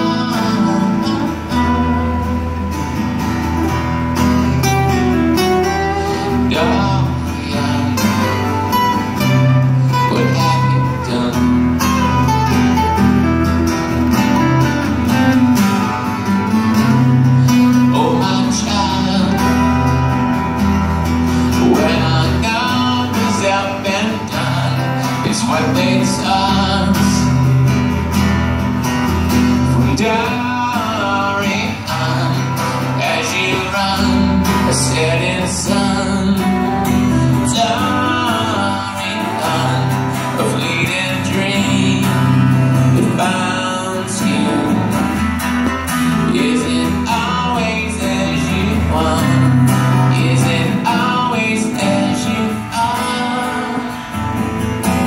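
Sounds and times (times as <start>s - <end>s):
man singing: 0.0s - 3.0s, 5.3s - 12.8s, 16.9s - 20.6s, 21.4s - 28.0s, 29.6s - 55.0s
acoustic guitar strumming: 0.0s - 55.0s.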